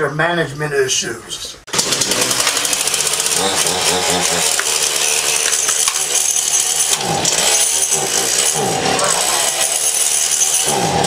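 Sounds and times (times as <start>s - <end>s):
chainsaw engine revving: 1.7s - 11.0s.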